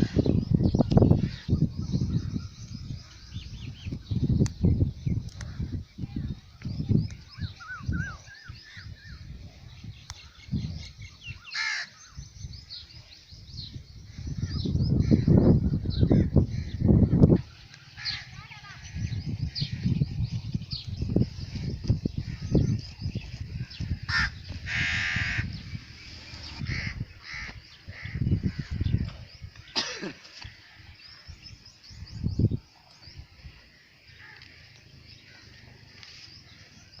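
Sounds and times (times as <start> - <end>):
birds chirping and calling: 0.0 - 37.0.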